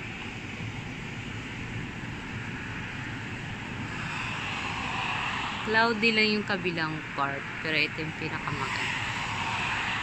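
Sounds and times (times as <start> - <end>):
car tyre and road noise: 0.0 - 6.5, 8.3 - 10.0.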